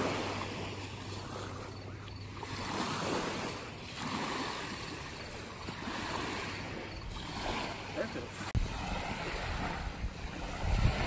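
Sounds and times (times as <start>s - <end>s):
small waves lapping on shore: 0.0s - 11.0s.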